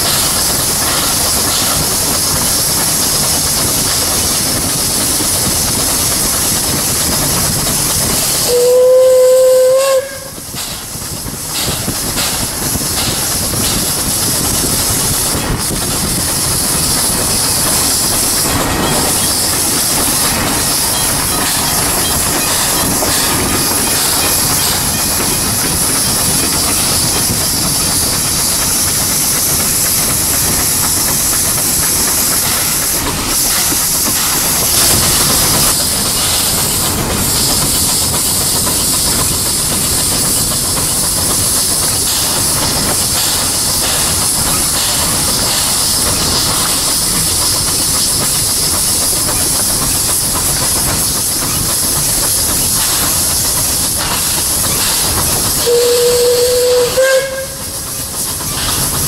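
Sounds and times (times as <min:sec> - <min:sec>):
loud hiss of steam: 0:00.0 - 0:59.0
steam locomotive moving slowly: 0:00.0 - 0:59.0.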